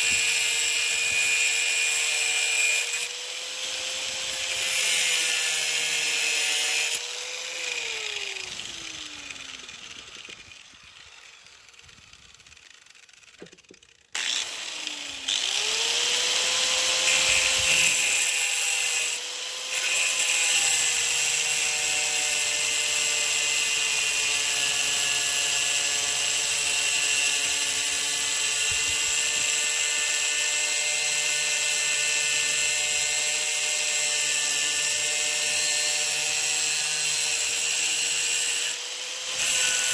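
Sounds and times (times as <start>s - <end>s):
electric grinder cutting metal: 0.0s - 39.9s.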